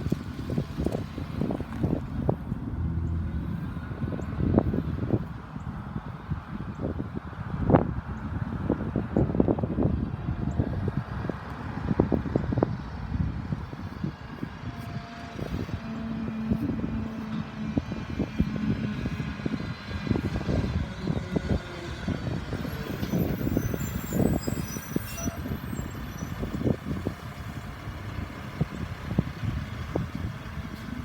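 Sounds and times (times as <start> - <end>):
garbage truck diesel rumble: 0.0 - 31.0.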